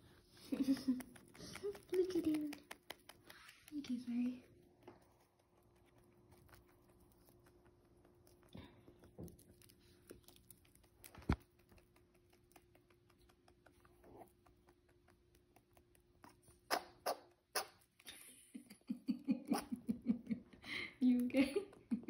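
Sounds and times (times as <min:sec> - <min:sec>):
rabbit chewing food: 0:00.0 - 0:18.1.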